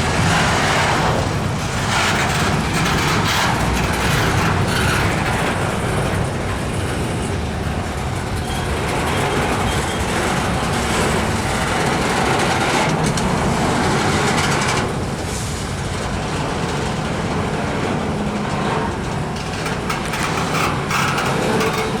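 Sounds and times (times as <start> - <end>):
freight train wheels rumbling: 0.0 - 22.0
train cars clanking: 0.0 - 22.0.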